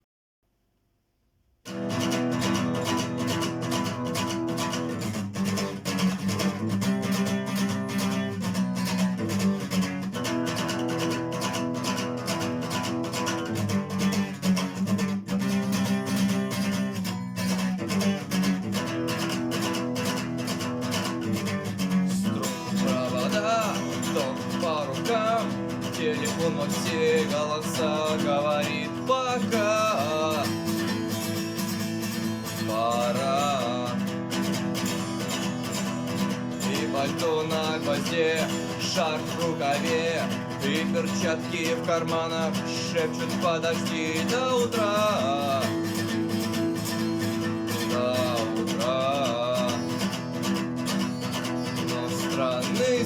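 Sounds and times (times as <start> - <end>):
acoustic guitar strumming: 1.7 - 53.0.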